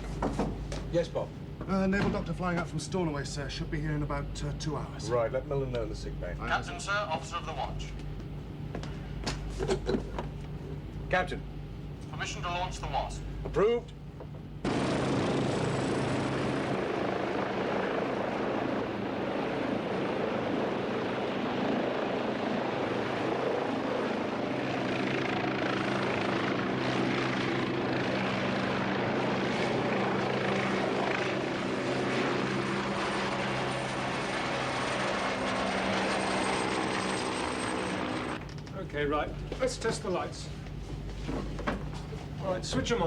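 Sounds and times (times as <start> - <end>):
helicopter rotor drone: 0.0 - 38.7
helicopter turbine whine: 0.0 - 40.8.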